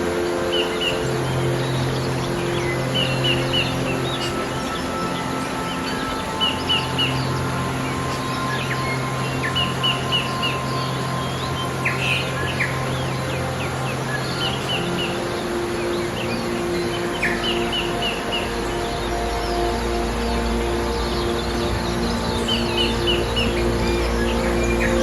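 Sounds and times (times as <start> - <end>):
soft sustained music tones: 0.0 - 25.0
stream rushing: 0.0 - 25.0.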